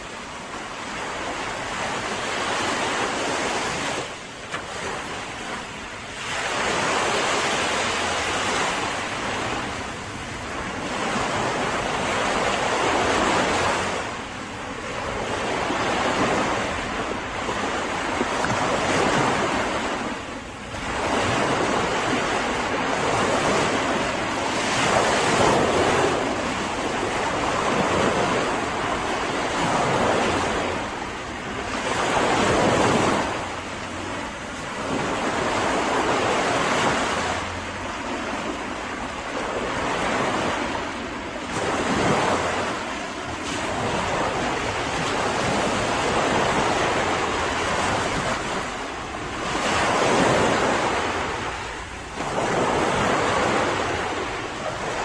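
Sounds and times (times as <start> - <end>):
waves breaking on beach: 0.0 - 55.0.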